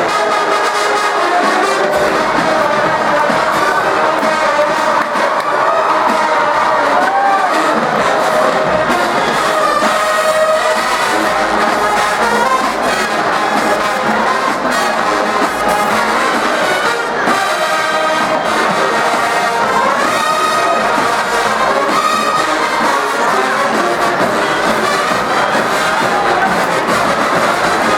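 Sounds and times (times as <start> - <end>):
marching band brass playing: 0.0 - 27.9.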